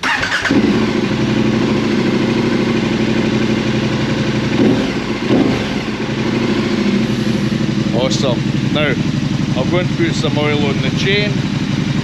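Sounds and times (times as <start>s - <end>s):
motorcycle engine starting and idling: 0.0s - 12.0s.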